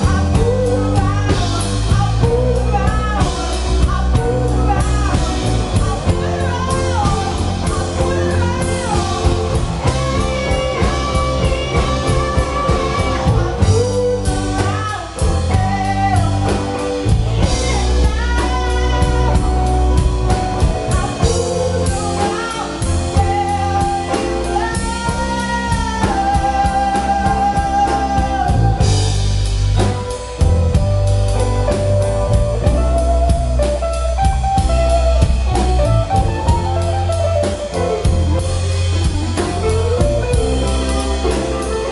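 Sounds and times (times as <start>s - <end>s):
live rock band playing: 0.0s - 41.9s
woman singing lead: 0.0s - 41.9s.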